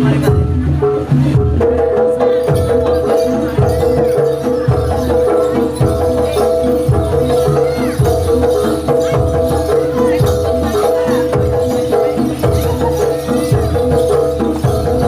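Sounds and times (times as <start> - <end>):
live gamelan-style music over sound system: 0.0 - 15.0.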